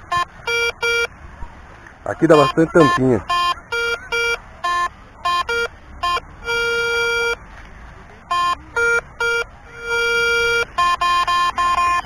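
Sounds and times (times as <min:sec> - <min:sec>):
metal detector beeps: 0:00.1 - 0:01.1, 0:02.3 - 0:07.4, 0:08.3 - 0:12.0.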